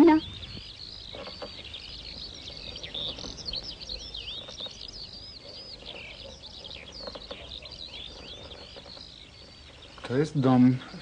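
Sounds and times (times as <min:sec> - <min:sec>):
small birds singing: 0:00.0 - 0:11.0.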